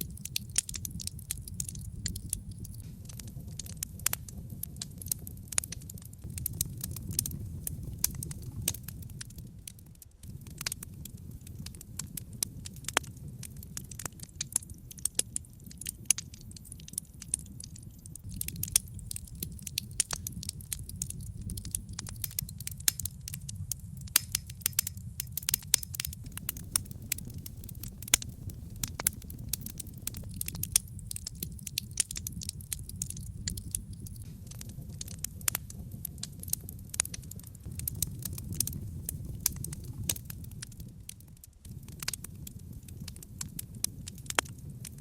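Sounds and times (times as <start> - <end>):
fire crackles and pops: 0.0 - 45.0
low rumble of flame: 0.0 - 45.0.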